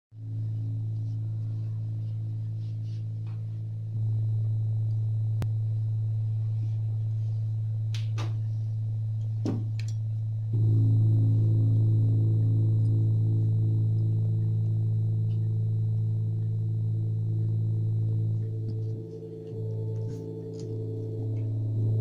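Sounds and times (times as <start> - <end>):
drone music: 0.1 - 22.0.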